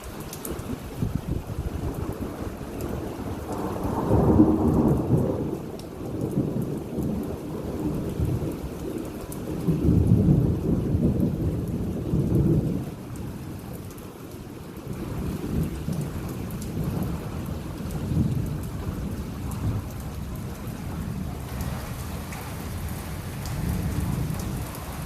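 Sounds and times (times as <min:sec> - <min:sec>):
steady rain: 0:00.0 - 0:25.0
thunder rumbling: 0:00.4 - 0:13.9, 0:14.6 - 0:25.0.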